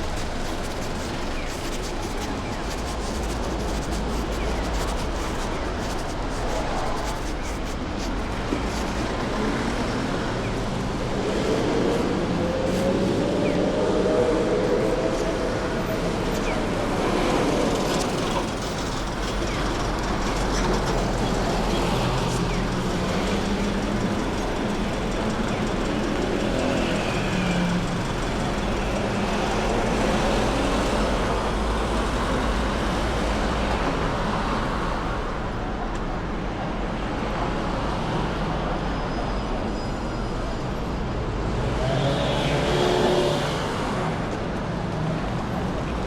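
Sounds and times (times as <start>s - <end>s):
road traffic noise: 0.0s - 46.0s.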